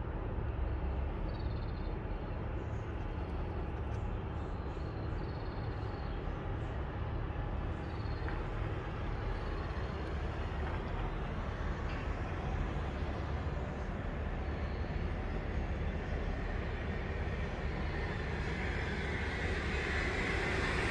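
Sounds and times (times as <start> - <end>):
distant road traffic rumble: 2.3 - 20.9.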